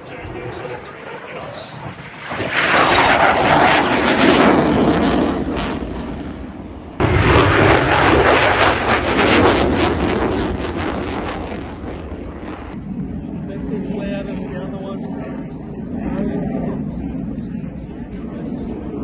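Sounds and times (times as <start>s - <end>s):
jet engine roaring: 0.0s - 19.0s.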